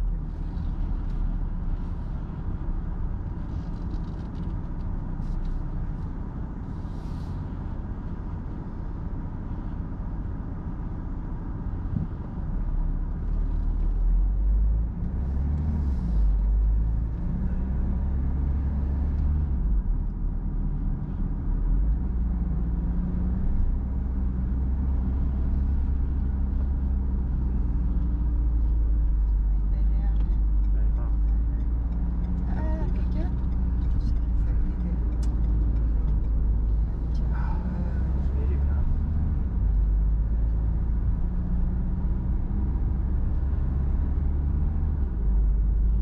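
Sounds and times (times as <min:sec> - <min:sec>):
car engine and road rumble: 0:00.0 - 0:46.0
faint engine hum: 0:00.0 - 0:46.0.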